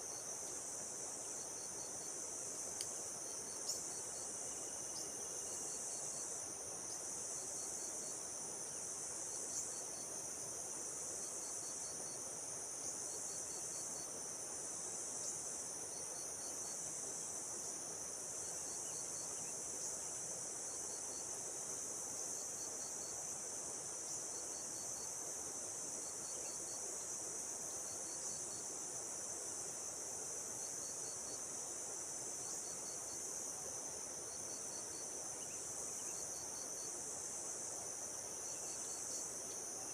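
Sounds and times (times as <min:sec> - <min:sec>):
insect chirp of quick pulses: 0:00.0 - 0:39.9
insects trilling drone: 0:00.0 - 0:39.9.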